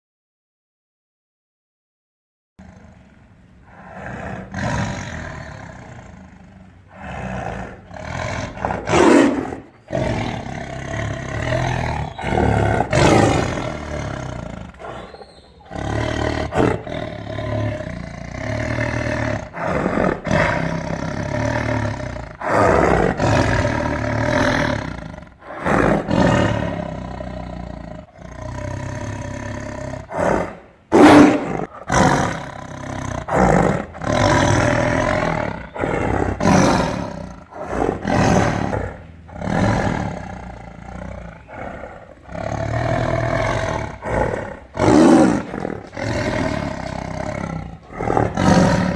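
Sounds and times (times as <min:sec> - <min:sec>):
tiger growling and roaring: 0:02.6 - 0:48.9.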